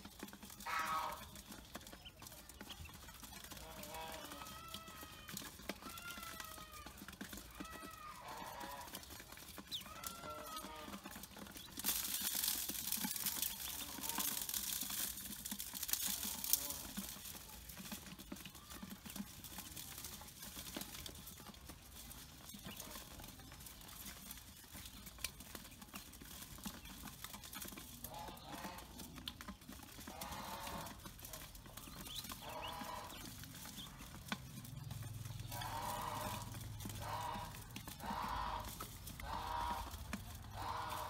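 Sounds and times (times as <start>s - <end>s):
drawn-out animal calls: 0.0s - 41.0s
ducklings pecking in steel bowl: 0.0s - 41.0s.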